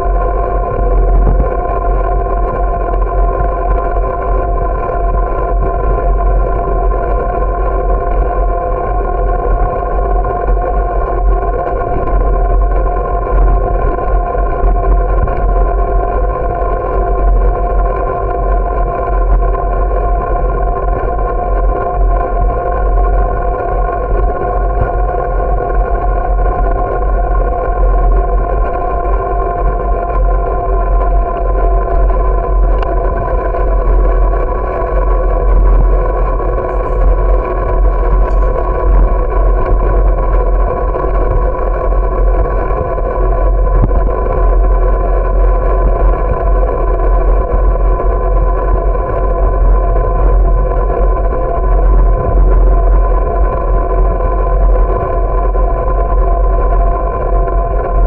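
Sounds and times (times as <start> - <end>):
constant hum of steady tones: 0.0 - 58.0
wind rumble on microphone: 0.0 - 58.0.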